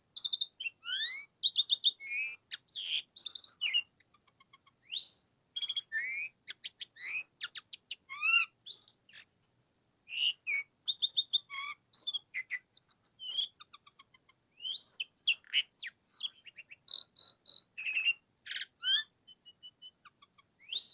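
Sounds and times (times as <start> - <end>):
starling singing: 0.2 - 20.9.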